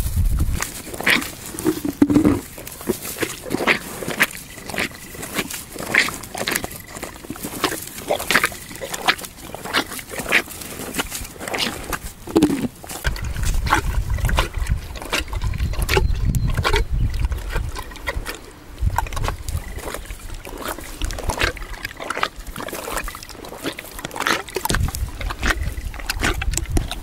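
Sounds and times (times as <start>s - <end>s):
horse chewing grass: 0.0s - 27.0s.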